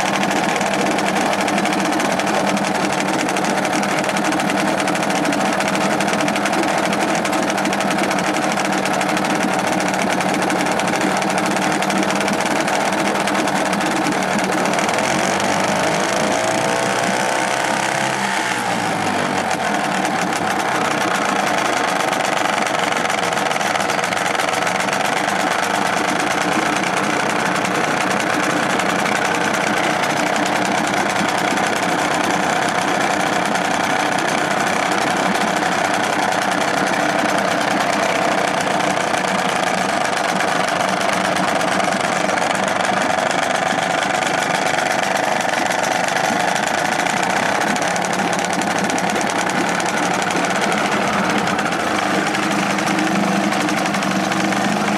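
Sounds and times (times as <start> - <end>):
two-stroke outboard motor running: 0.0 - 54.9.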